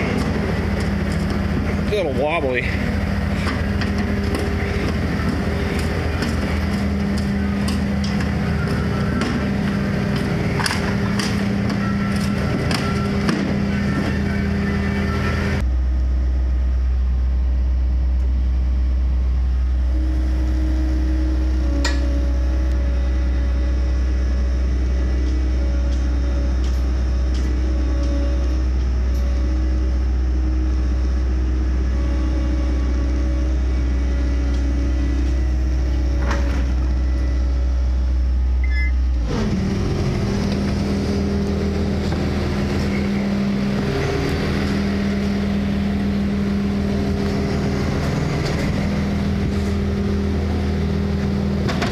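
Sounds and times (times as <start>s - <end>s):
machine deep hum: 0.0s - 51.9s.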